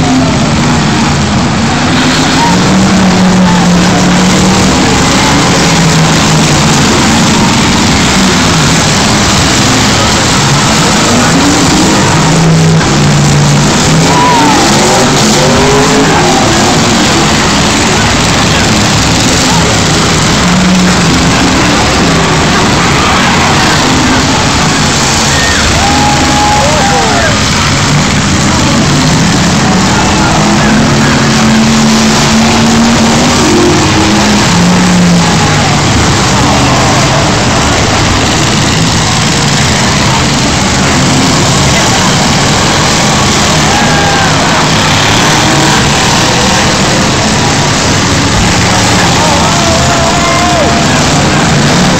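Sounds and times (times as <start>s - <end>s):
race car engines passing: 0.0s - 51.9s.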